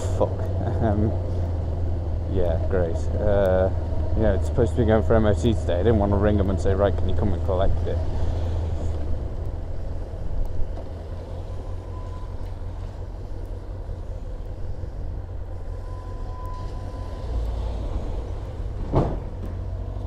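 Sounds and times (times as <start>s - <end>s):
road noise: 0.0s - 20.0s
wind rumble: 0.0s - 20.0s.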